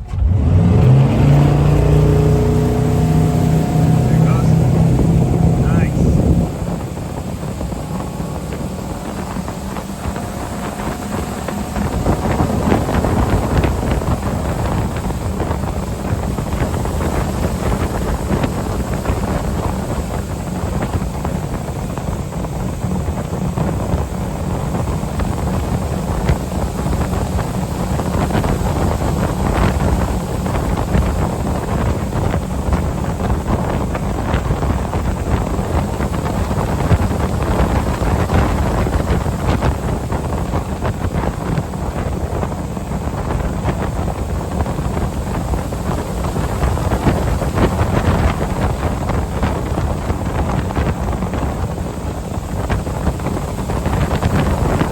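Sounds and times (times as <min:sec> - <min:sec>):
boat engine running: 0:00.0 - 0:54.9
wind buffeting microphone: 0:00.0 - 0:54.9
rushing water: 0:00.1 - 0:54.9.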